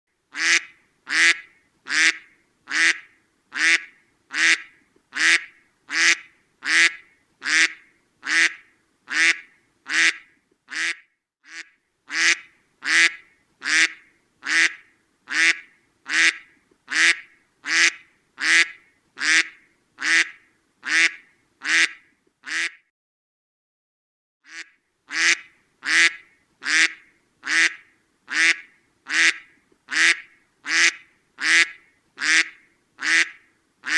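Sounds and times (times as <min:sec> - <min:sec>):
duck quacking: 0:00.3 - 0:22.8, 0:24.5 - 0:33.9.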